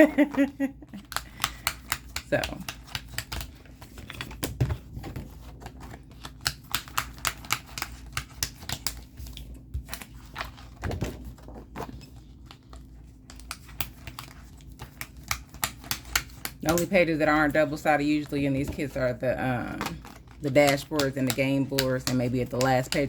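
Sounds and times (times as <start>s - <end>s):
paper rustling and tapping: 0.2s - 23.0s.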